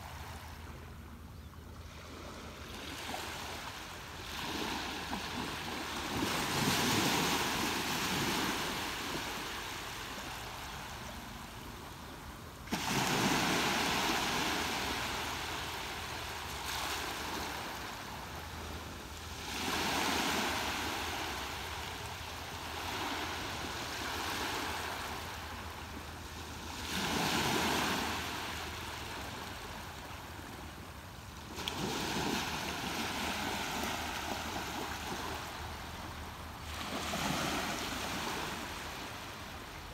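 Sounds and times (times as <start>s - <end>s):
ocean waves breaking: 1.9s - 11.4s, 12.6s - 30.5s, 31.4s - 39.9s.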